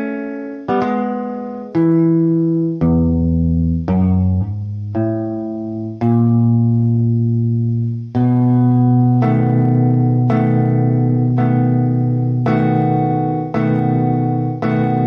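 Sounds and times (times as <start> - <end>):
guitar playing slow blues lick: 0.0 - 15.0.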